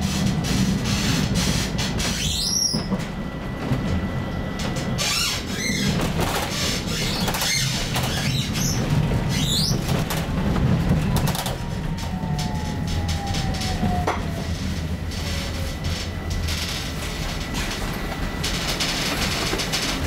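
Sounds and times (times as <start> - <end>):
electric drive whine: 0.0 - 20.0
tram running rumble: 0.0 - 20.0.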